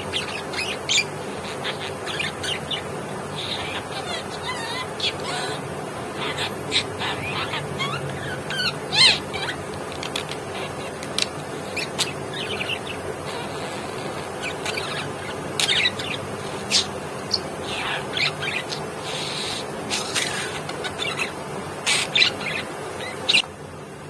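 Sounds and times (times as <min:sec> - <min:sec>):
budgerigar chattering: 0:00.0 - 0:23.5.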